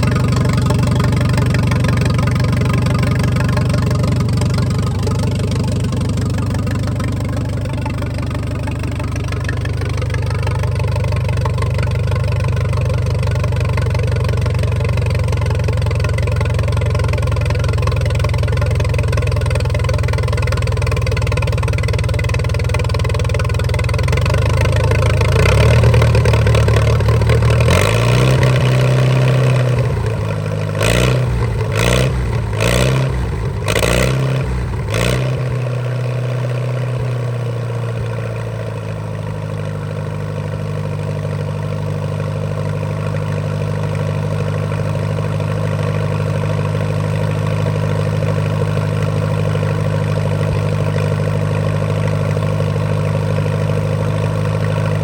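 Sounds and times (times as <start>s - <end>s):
tractor engine idling and revving: 0.0s - 55.0s.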